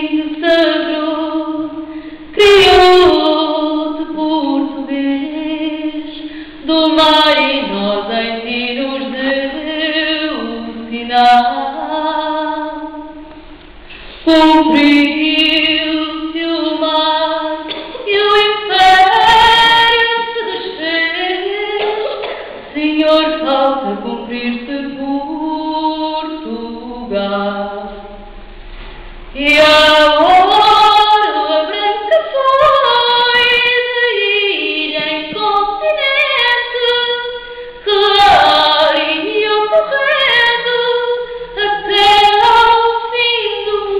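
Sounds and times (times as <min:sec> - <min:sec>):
woman singing a cappella: 0:00.0 - 0:13.5, 0:14.2 - 0:28.3, 0:29.3 - 0:43.9.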